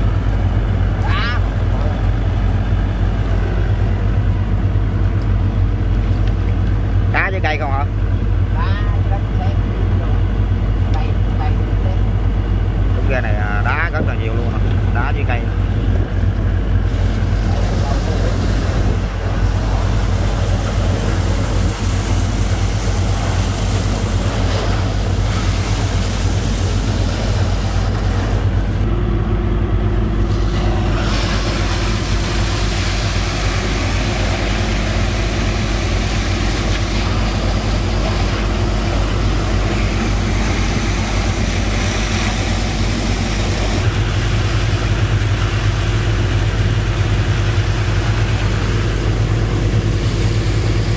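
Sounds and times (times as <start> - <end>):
pump engine running: 0.0 - 50.9.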